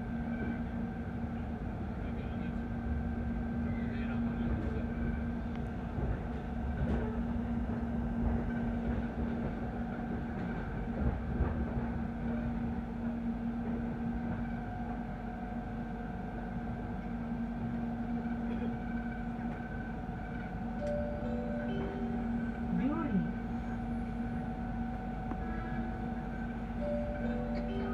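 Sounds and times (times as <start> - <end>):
train running rumble: 0.0 - 27.9.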